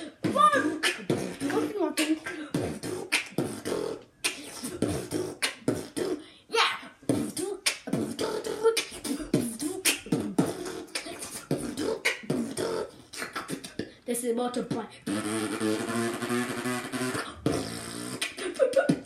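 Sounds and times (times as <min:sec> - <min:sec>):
boy beatboxing: 0:00.0 - 0:19.0.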